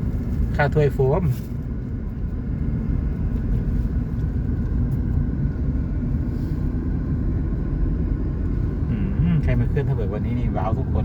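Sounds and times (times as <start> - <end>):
car rumbling on the move: 0.0 - 11.0.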